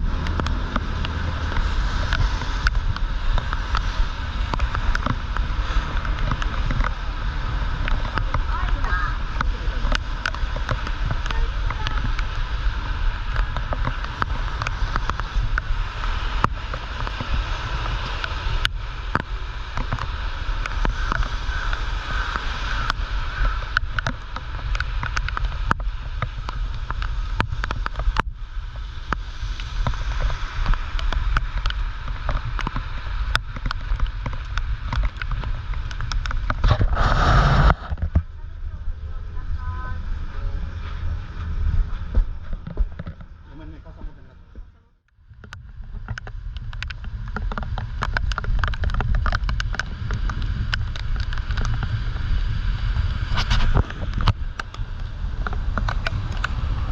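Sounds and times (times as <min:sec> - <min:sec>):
heavy rain falling: 0:00.0 - 0:43.3, 0:45.8 - 0:56.9
wind rumbling on microphone: 0:00.0 - 0:56.9.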